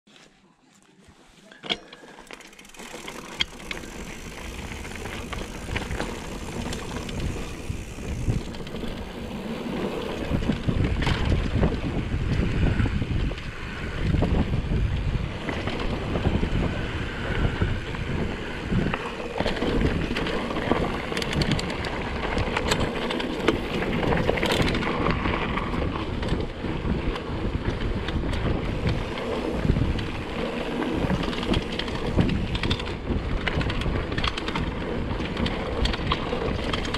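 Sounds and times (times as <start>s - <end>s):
bike rattling and knocking: 1.6s - 36.9s
wind rushing over microphone: 3.8s - 36.9s.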